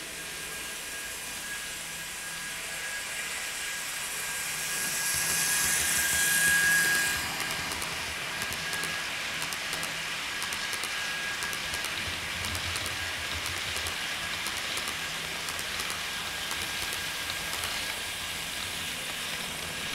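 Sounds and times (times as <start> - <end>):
model train wheels rolling on rail: 0.0 - 19.9.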